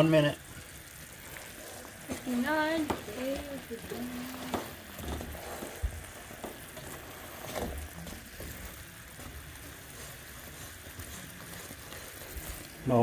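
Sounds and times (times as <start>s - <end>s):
mixture bubbling in a saucepan: 0.0s - 13.0s.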